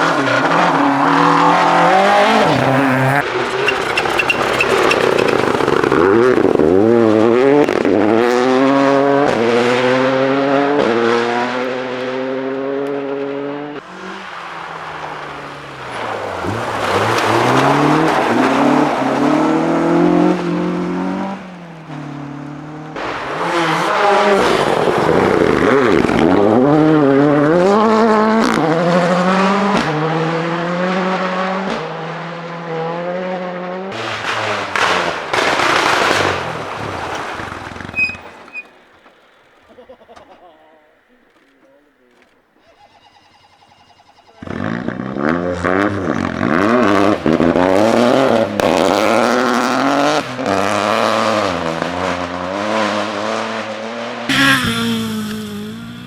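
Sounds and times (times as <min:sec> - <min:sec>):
rally car engines at full throttle: 0:00.0 - 0:42.6, 0:44.4 - 0:56.0.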